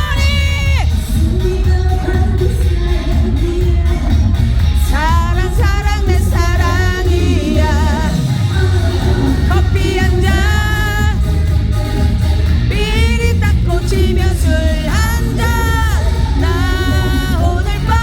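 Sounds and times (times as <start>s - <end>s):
backing track with heavy bass beat: 0.0s - 18.0s
woman singing: 0.0s - 18.0s.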